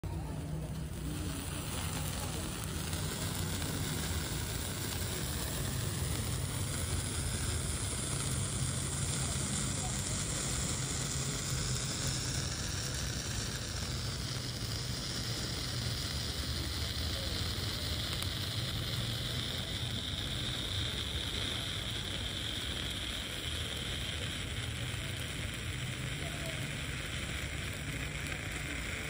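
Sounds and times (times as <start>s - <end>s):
sparkler firework sizzling: 0.0s - 29.0s.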